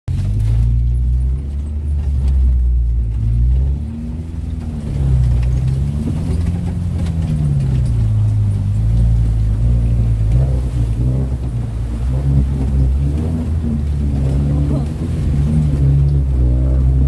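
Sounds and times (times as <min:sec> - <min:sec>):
vehicle engine running at low revs: 0:00.1 - 0:17.0.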